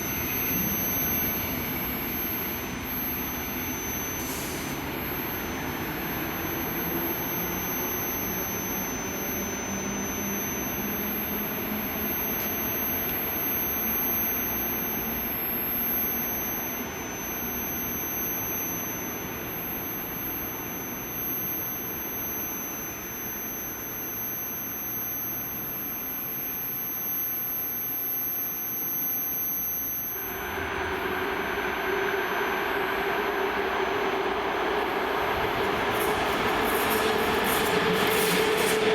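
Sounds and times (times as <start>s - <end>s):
low motor whine: 0.0s - 38.9s
steady higher hum: 0.0s - 38.9s.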